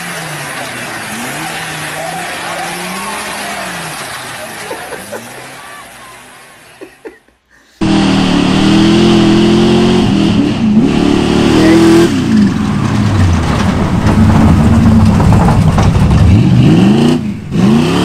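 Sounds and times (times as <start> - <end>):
truck engine revving hard: 0.0 - 6.7, 7.8 - 18.0.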